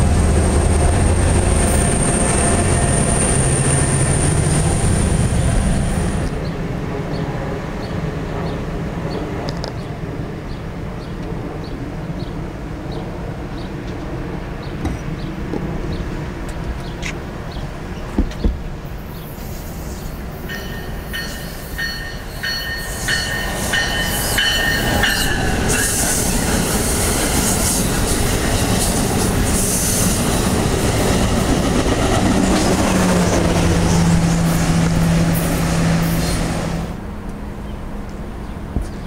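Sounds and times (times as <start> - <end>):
train wheels rushing on rail: 0.0 - 39.0.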